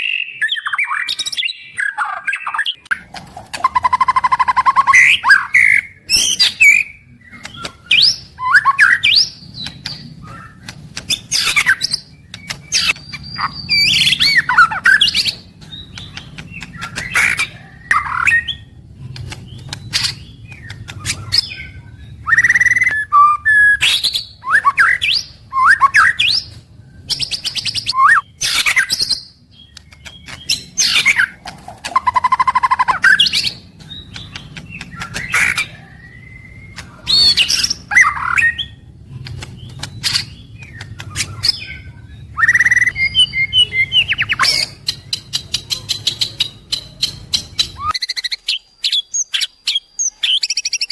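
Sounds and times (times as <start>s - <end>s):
songbird singing varied whistles: 3.6s - 18.8s, 19.5s - 38.8s, 39.6s - 50.9s.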